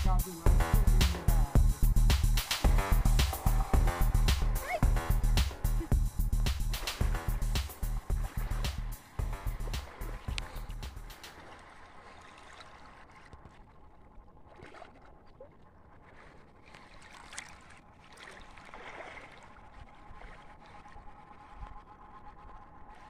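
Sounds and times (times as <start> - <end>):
floodwater sloshing: 0.3 - 21.8.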